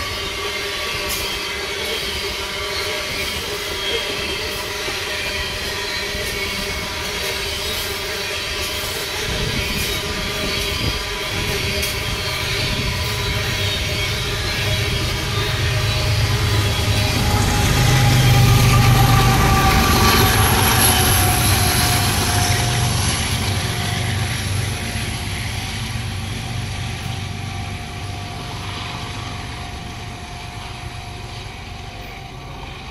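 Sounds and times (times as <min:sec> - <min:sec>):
coal train rumbling on rails: 0:00.0 - 0:32.9
diesel locomotives running by: 0:00.0 - 0:32.9.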